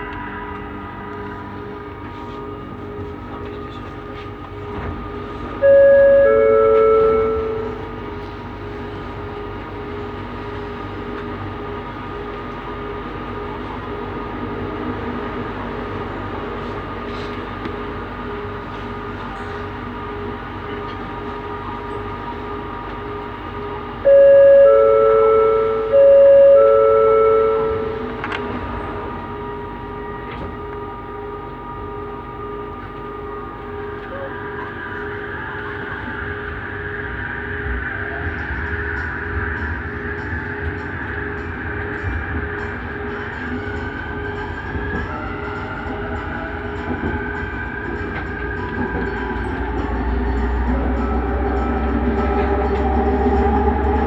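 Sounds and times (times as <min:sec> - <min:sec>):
train hum and whine: 0:00.0 - 0:54.0
wheel and track rumble: 0:00.0 - 0:54.0.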